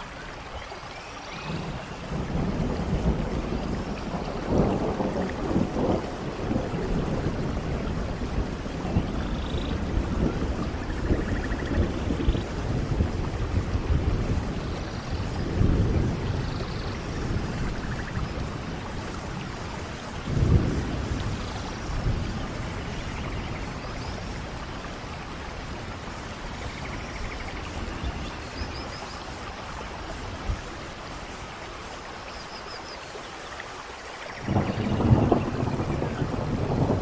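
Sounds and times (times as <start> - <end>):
rain falling: 0.0 - 37.0
thunder rumbling: 1.4 - 31.2, 34.4 - 37.0.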